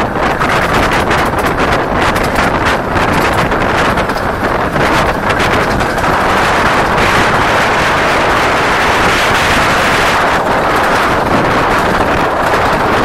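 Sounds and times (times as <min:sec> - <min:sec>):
miniature train running: 0:00.0 - 0:13.0
wind rushing over microphone: 0:00.0 - 0:13.0.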